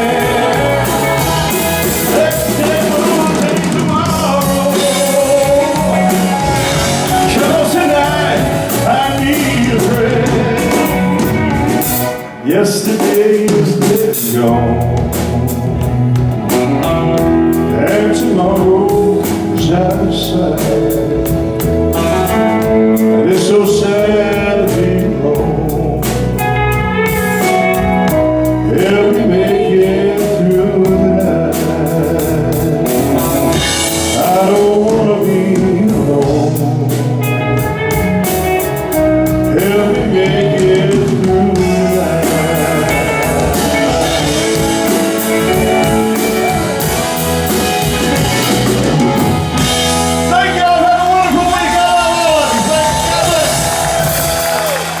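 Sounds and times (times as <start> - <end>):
live band playing a slow ballad: 0.0 - 55.0
person singing: 0.0 - 55.0.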